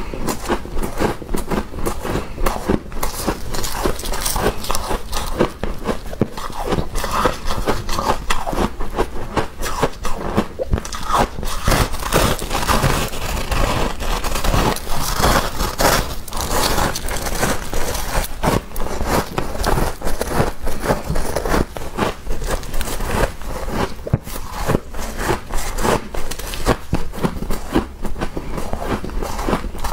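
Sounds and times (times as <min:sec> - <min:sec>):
frost being chewed: 0:00.0 - 0:29.9.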